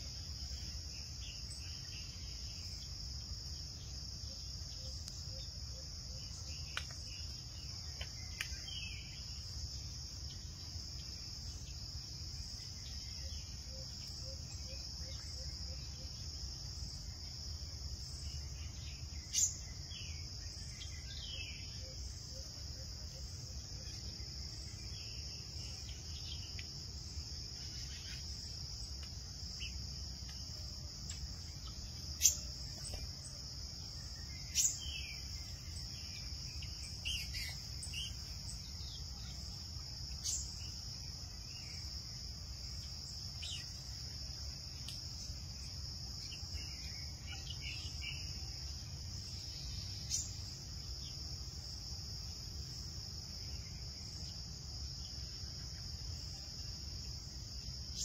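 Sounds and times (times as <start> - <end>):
crickets chorus: 0.0 - 58.0.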